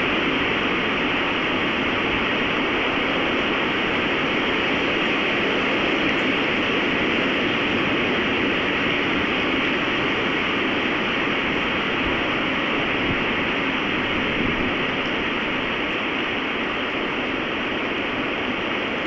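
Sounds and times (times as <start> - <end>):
strong wind rushing: 0.0 - 19.0.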